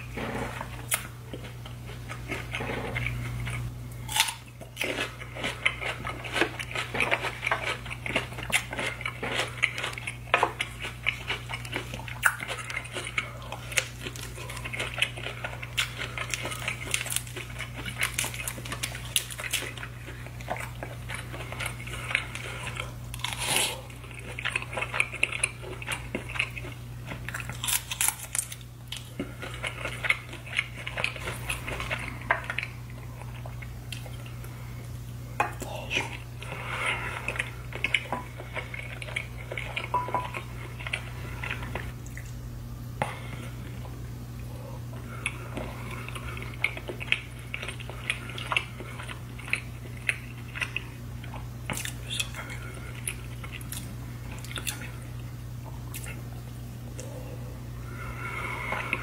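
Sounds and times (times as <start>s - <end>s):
chewing and mouth smacking: 0.5s - 34.6s, 37.2s - 42.4s, 44.9s - 57.2s.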